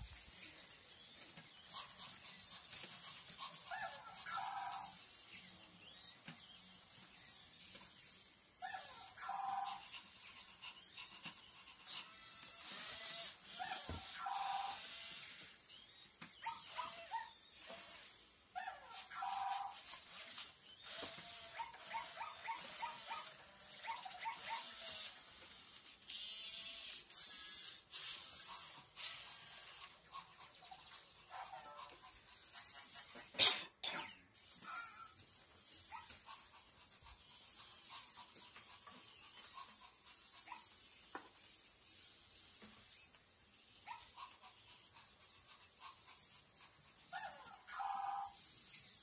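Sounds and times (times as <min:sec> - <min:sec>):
toy robot dog electronic barks: 0:01.6 - 0:11.2, 0:11.8 - 0:33.3, 0:34.0 - 0:46.4, 0:47.0 - 0:49.0.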